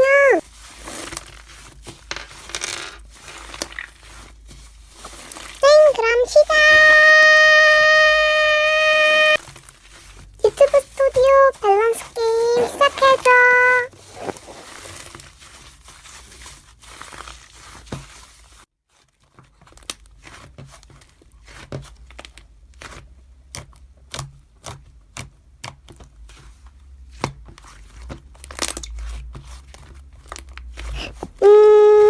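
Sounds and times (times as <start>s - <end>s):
faint rustling handling noise: 0.0s - 6.6s, 9.4s - 23.9s, 25.8s - 32.0s.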